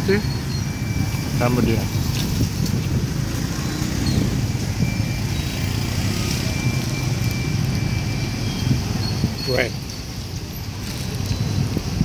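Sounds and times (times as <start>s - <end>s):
motorbikes passing: 0.0s - 12.0s.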